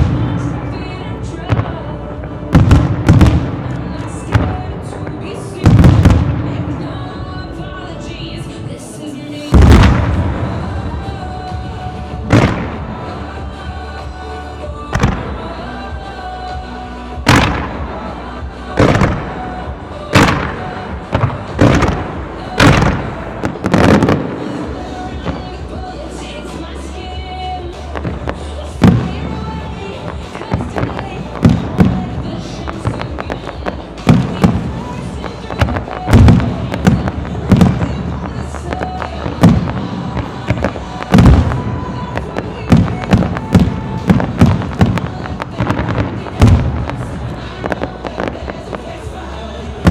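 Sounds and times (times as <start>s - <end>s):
fireworks booming and crackling: 0.0s - 16.6s, 17.2s - 49.9s
music: 0.0s - 49.9s.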